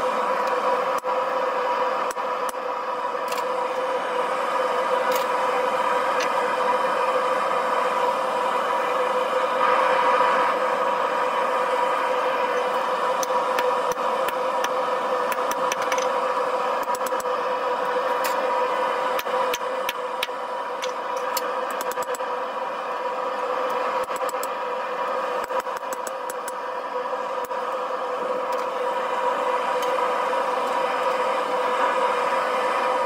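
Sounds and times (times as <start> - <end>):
gas forge burner hum: 0.0 - 33.0.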